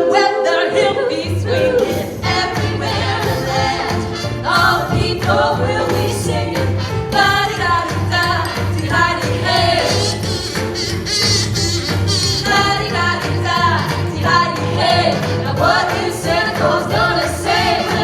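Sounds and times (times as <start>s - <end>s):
voices singing in harmony: 0.0s - 18.0s
instrumental backing with bass beat: 2.2s - 18.0s.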